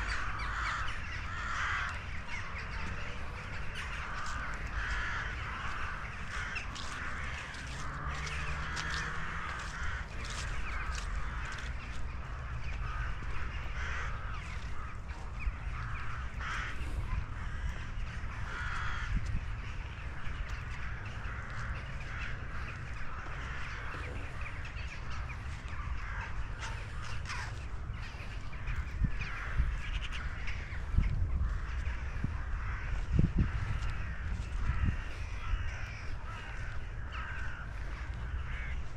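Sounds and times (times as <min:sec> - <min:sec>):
crows cawing: 0:00.0 - 0:38.9
steady low rumble: 0:00.0 - 0:38.9.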